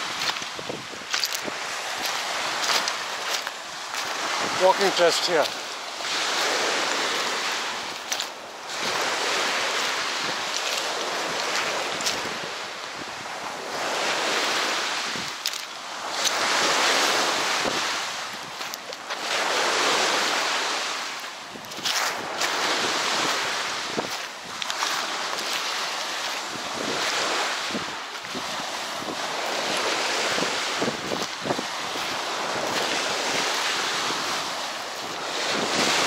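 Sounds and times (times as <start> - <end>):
waves washing onto pebbles: 0.0 - 36.0.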